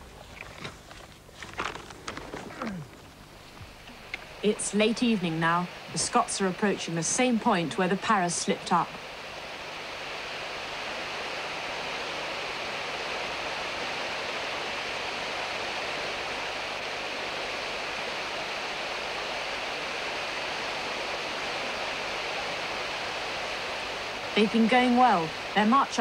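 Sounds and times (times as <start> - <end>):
stream rushing over stones: 0.0 - 26.0.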